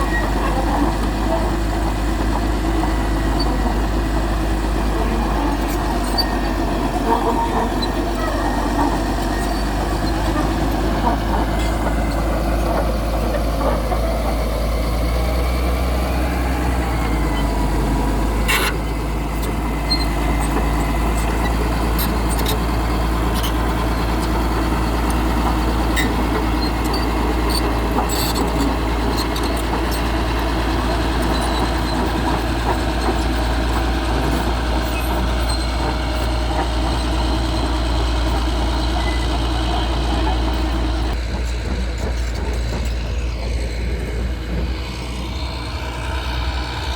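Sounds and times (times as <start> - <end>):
heavy machinery engine hum: 0.0 - 46.9.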